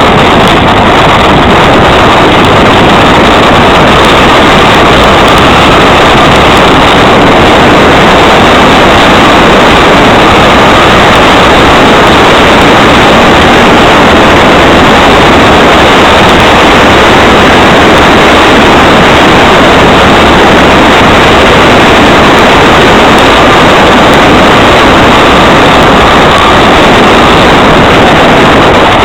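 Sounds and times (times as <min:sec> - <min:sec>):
motorcycle engine running: 0:00.0 - 0:29.0
rushing air: 0:00.0 - 0:29.0.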